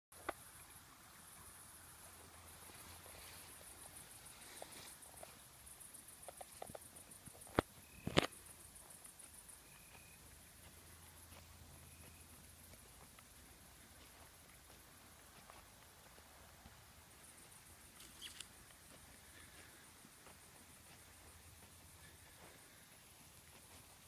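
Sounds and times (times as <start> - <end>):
crickets chirping: 0.2 - 24.0.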